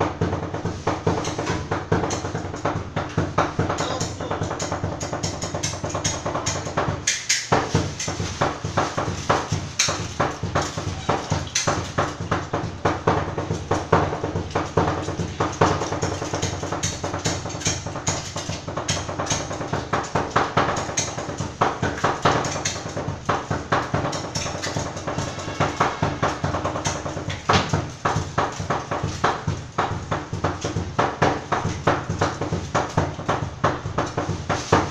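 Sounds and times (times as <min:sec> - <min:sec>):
knives chopping on a board: 0:00.2 - 0:34.9.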